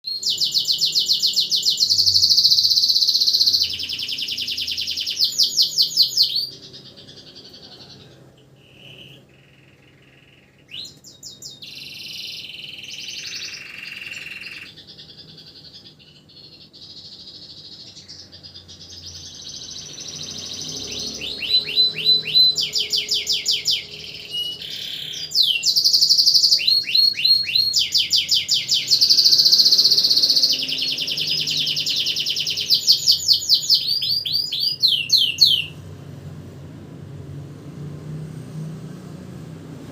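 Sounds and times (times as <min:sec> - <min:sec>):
canary singing: 0:00.0 - 0:36.4.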